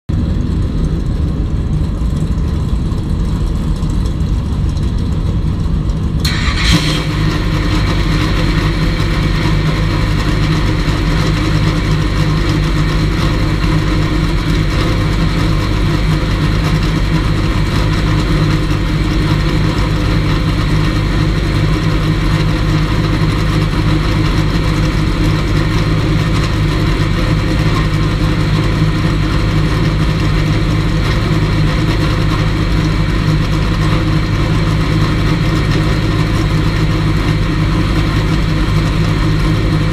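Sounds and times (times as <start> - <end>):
race car engine idling: 0.1 - 39.9
steady high whine: 0.1 - 39.9.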